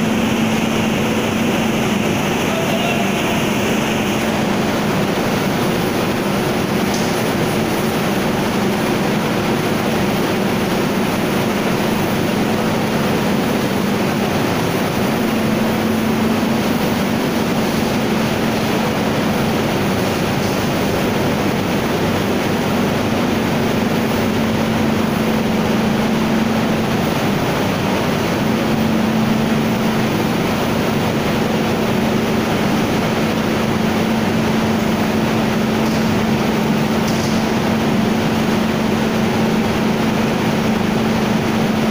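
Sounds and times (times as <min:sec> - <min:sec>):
flour mill machinery drone: 0:00.0 - 0:41.9.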